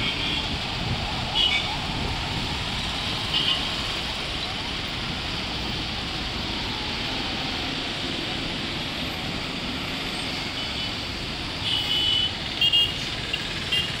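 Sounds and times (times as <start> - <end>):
busy road traffic: 0.0 - 14.0.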